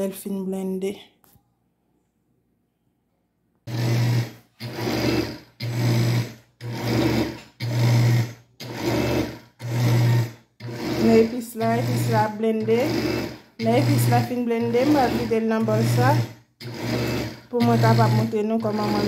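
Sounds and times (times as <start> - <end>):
blender motor pulsing: 3.6 - 19.0.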